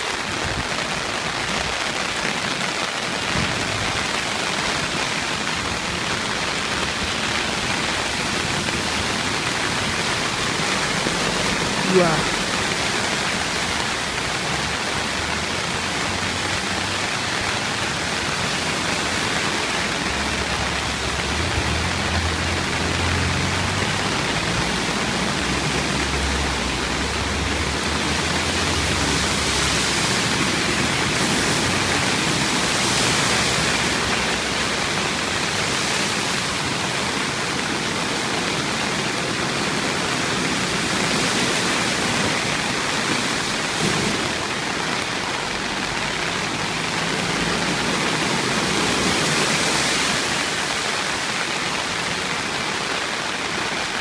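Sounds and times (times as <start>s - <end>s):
heavy rain hissing: 0.0s - 54.0s
water pouring from a ditch: 0.0s - 54.0s.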